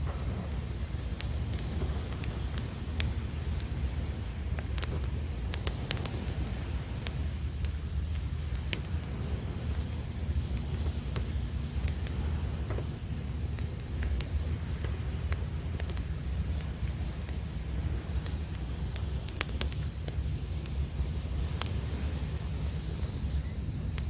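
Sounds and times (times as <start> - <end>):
campfire crackling and popping: 0.0 - 24.0
sea waves rumbling: 0.0 - 24.0.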